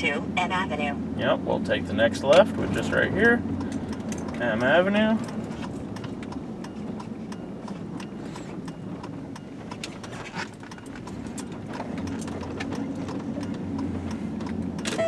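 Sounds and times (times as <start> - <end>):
car engine hum and road noise: 0.0 - 15.0
turn signal ticking: 0.0 - 15.0.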